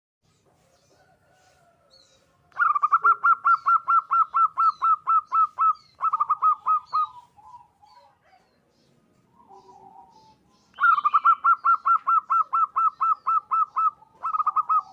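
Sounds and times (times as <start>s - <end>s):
faint bird chirps: 0.6s - 14.9s
dove cooing: 2.6s - 14.9s.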